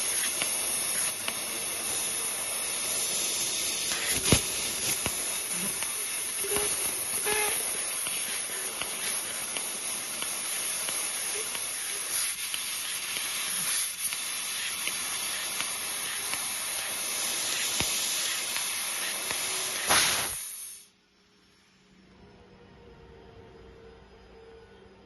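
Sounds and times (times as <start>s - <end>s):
laser cutting machine hissing: 0.0s - 20.9s.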